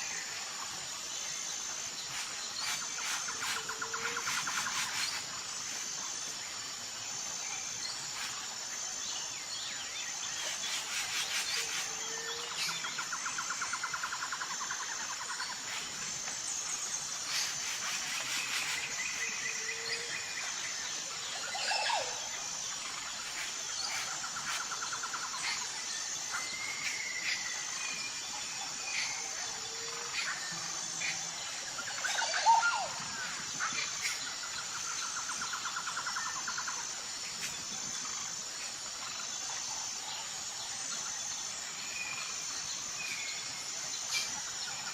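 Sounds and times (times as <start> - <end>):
pulsing insect drone: 0.0 - 44.9.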